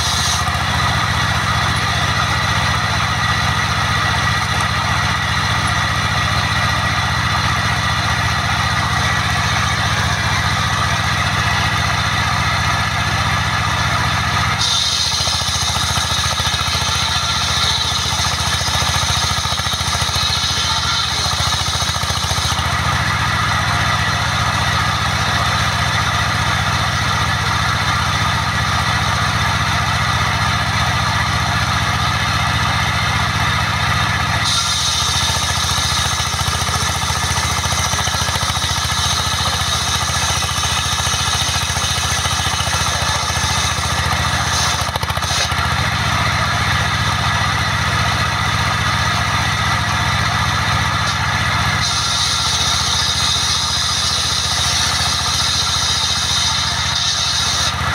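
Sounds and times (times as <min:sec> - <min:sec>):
saw hissing through plank: 0:00.0 - 0:12.4, 0:13.0 - 0:57.9
sawmill engine running: 0:00.0 - 0:57.9.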